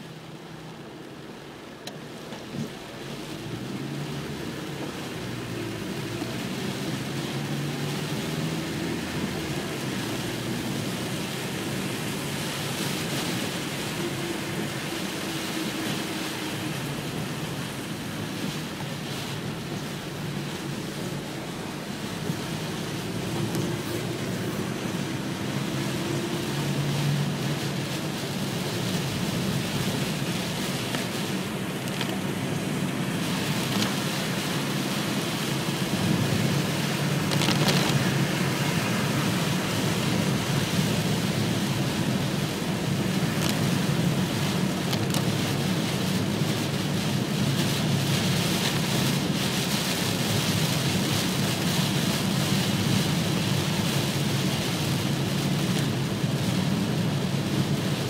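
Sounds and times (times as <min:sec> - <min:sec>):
heavy rain on car roof: 0:00.0 - 0:58.0
low engine hum: 0:00.0 - 0:58.0
tyres on wet road: 0:00.0 - 0:58.0.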